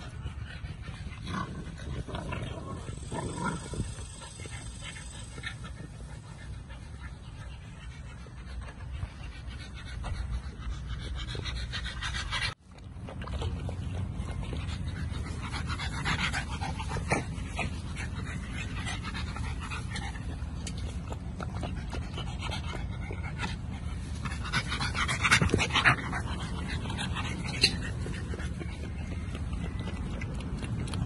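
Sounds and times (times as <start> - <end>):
puppies panting: 0.0 - 2.1, 2.7 - 31.0.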